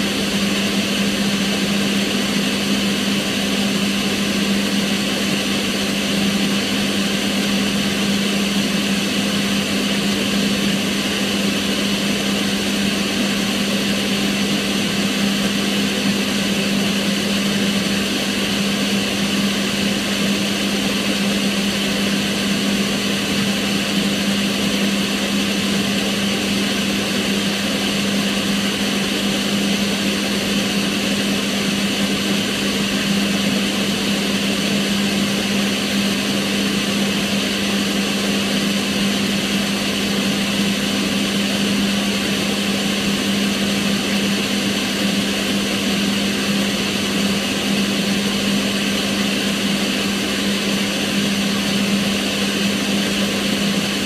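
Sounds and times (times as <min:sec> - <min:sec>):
range hood fan running: 0:00.0 - 0:54.0.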